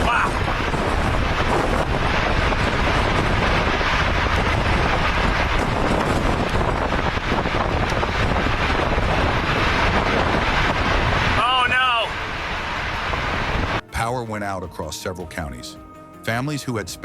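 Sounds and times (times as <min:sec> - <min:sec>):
storm wind rushing: 0:00.0 - 0:13.8
wind buffeting microphone: 0:00.0 - 0:13.8.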